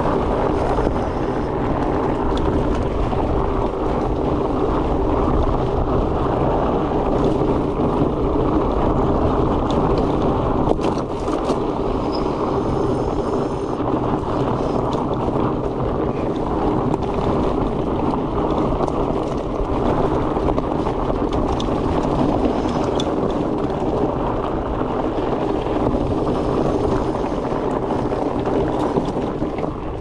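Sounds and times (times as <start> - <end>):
bike tyres rumbling on dirt: 0.0 - 30.0
wind buffeting microphone: 0.0 - 30.0.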